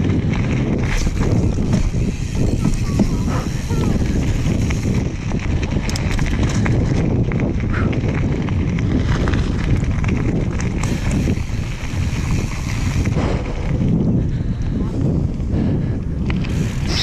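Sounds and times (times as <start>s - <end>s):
bike clicks and rattles: 0.0s - 17.0s
bike tyres on dirt trail: 0.0s - 17.0s
wind buffeting microphone: 0.0s - 17.0s.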